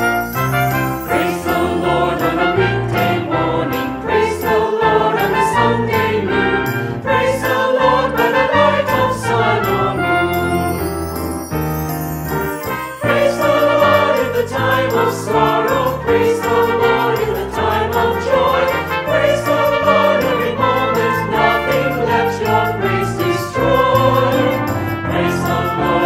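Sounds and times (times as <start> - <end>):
trumpet: 0.0 - 4.2, 7.9 - 11.4, 12.3 - 26.0
jingling percussion: 0.0 - 26.0
choir singing: 0.7 - 11.2, 12.3 - 26.0.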